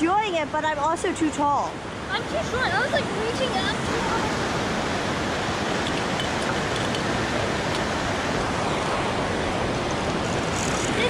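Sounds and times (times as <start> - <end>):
whitewater rapids rushing: 0.0 - 11.0.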